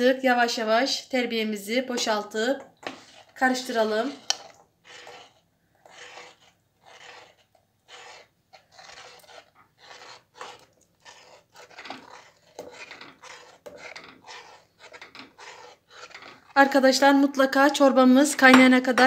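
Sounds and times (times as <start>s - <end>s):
ladle stirring soup in pot: 1.8s - 17.4s.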